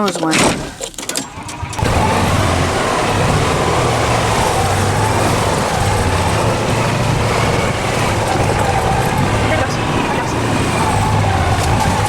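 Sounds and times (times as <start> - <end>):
utility vehicle engine running: 0.6 - 12.0.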